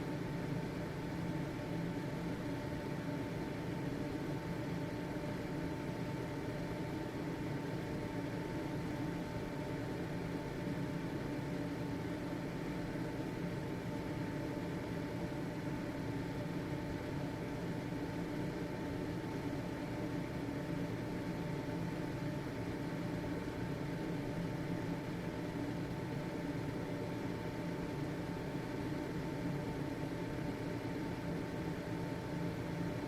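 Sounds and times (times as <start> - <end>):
ventilation fan running: 0.0 - 33.0.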